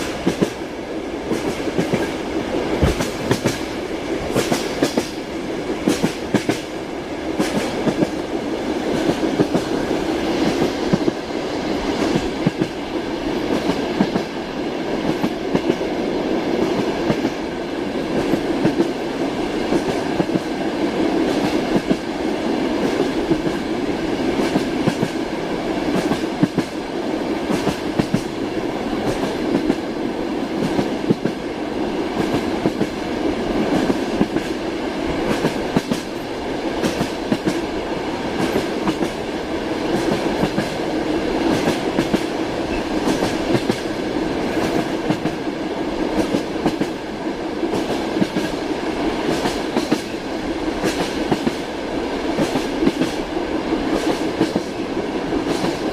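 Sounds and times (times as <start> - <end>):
train wheels clacking on rails: 0.0 - 55.9.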